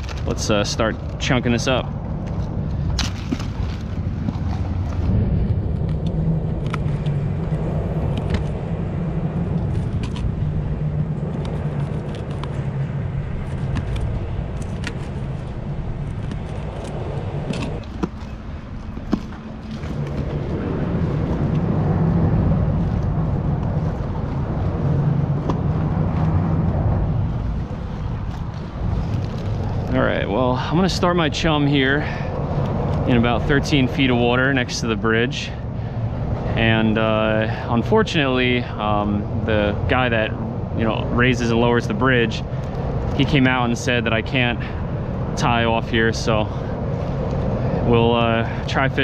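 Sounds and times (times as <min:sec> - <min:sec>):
rumble of car traffic: 0:00.0 - 0:49.0.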